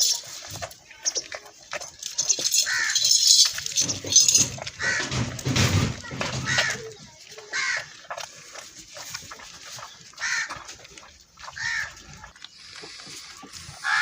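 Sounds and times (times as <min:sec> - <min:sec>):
farmyard animal calls: 0:00.0 - 0:14.0.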